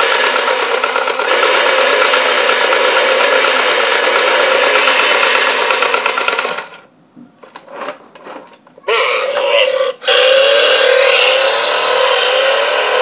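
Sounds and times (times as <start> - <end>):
toy electronic engine sound: 0.0 - 6.6, 8.9 - 13.0.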